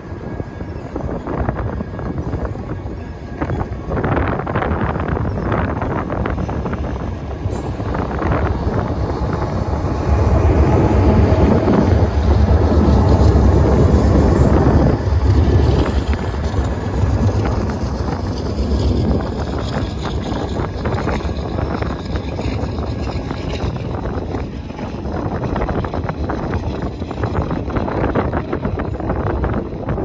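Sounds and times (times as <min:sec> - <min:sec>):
diesel locomotives rumbling past: 0:00.0 - 0:30.0
wind buffeting microphone: 0:00.0 - 0:30.0.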